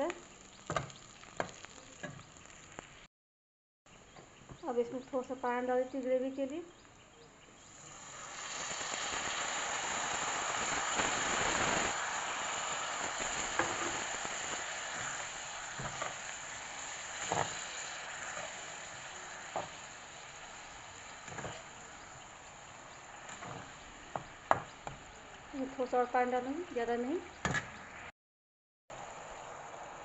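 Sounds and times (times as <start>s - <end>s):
water sizzling in hot pan: 0.0s - 3.1s, 7.7s - 28.1s, 28.9s - 30.0s.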